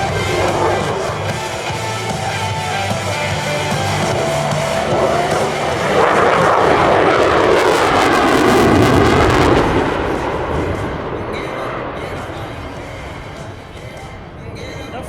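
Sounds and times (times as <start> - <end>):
jet fighter flying past: 0.0 - 14.4.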